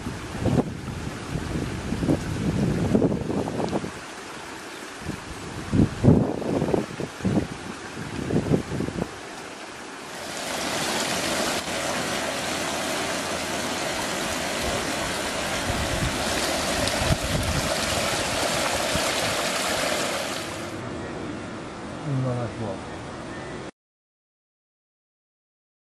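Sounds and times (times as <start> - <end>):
water rushing and gurgling: 0.0 - 20.8.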